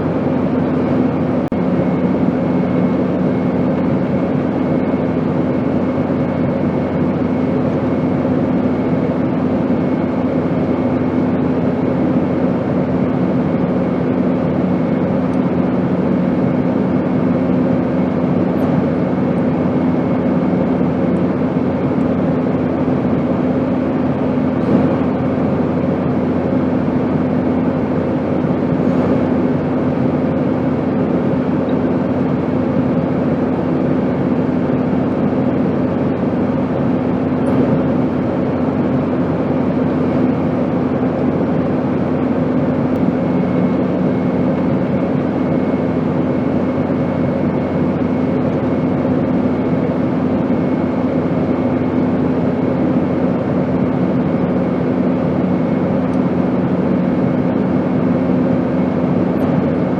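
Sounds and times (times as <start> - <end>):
airplane drone: 0.0 - 59.9.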